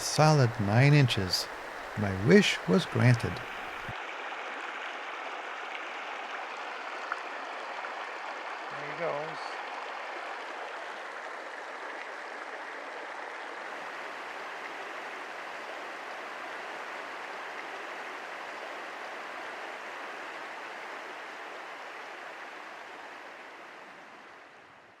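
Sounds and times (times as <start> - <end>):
stream water flowing: 0.0 - 24.7.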